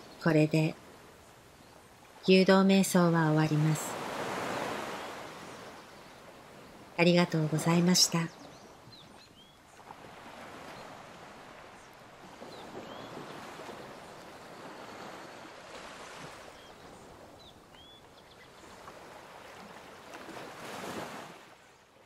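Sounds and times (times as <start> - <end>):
ocean waves washing: 0.0 - 21.9.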